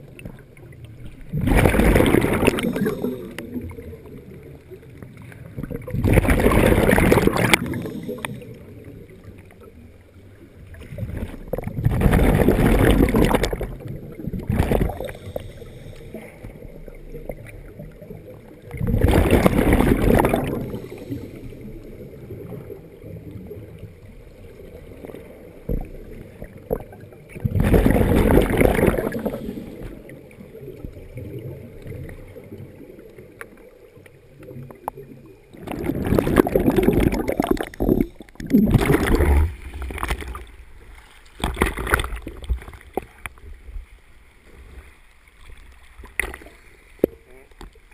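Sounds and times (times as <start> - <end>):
exhaled bubbles gushing: 0.0 - 43.5.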